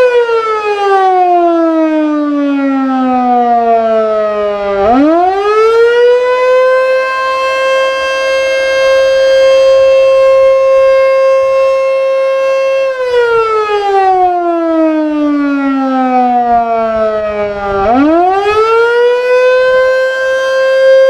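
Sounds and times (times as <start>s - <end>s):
fire siren wailing: 0.0s - 21.0s.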